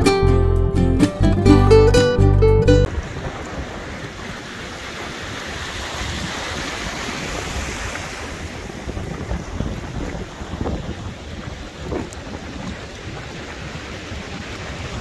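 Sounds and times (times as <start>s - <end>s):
small waves washing on sand: 2.9s - 15.0s
wind buffeting microphone: 2.9s - 15.0s.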